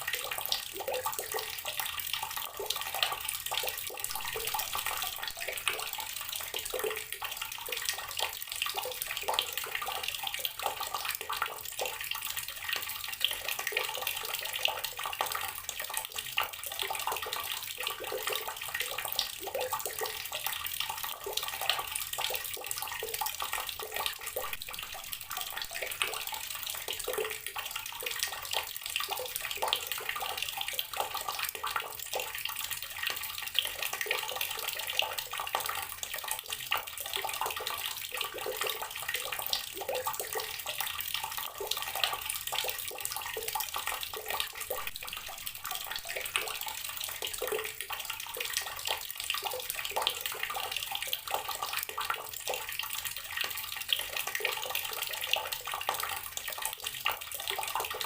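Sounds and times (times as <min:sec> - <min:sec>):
tap water pouring into container: 0:00.0 - 0:58.0.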